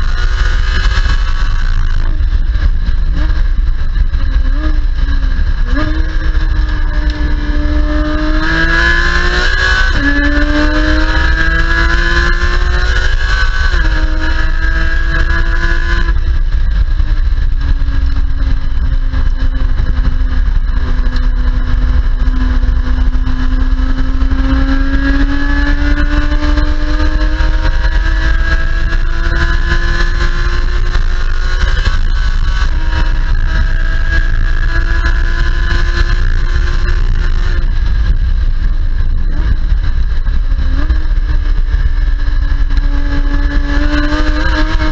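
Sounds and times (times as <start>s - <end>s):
car engine at full throttle: 0.0s - 44.9s
road and wind rumble: 0.0s - 44.9s.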